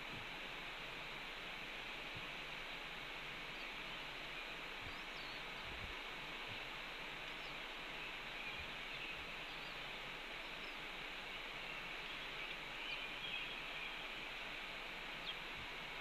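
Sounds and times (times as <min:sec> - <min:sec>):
steady outdoor microphone hiss: 0:00.0 - 0:16.0.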